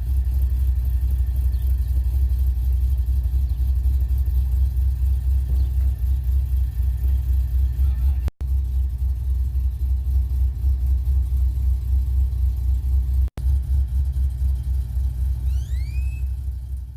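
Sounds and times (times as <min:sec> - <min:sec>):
truck engine idling with choppy lope: 0:00.0 - 0:16.9.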